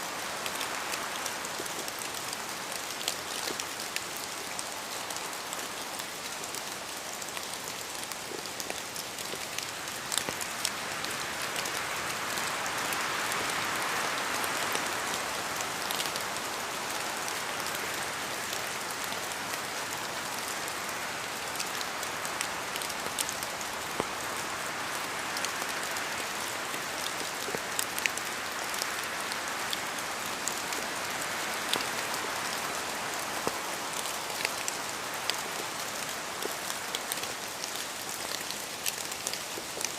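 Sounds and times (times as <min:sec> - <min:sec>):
rain rushing in forest: 0:00.0 - 0:39.9.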